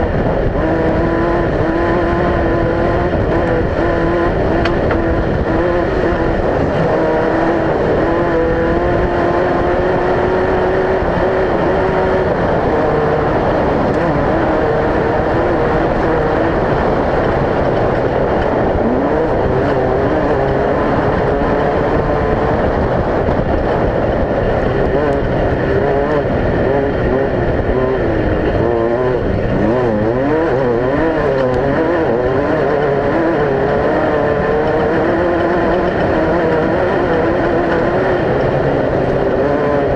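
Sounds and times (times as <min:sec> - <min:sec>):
dense loud mechanical noise: 0:00.0 - 0:39.9
race vehicle engine running hard: 0:00.0 - 0:39.9.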